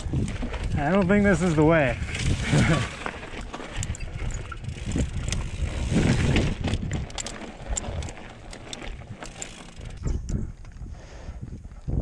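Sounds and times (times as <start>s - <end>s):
bike tyres rumbling over rock: 0.0s - 10.3s
bike clicks and rattles: 0.0s - 12.0s.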